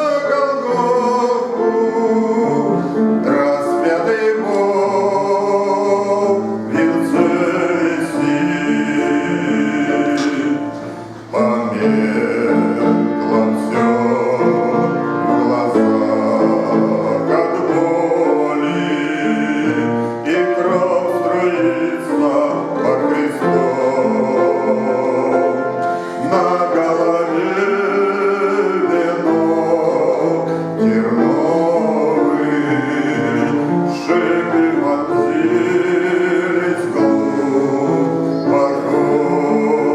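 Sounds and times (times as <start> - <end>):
instrumental accompaniment: 0.0 - 39.9
man singing: 0.0 - 39.9.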